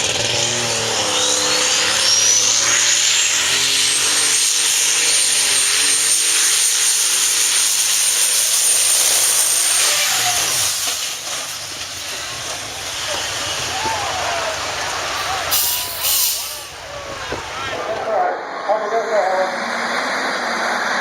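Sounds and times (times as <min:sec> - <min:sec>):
engine running under full load: 0:00.0 - 0:21.0
turbocharger whine: 0:00.0 - 0:21.0.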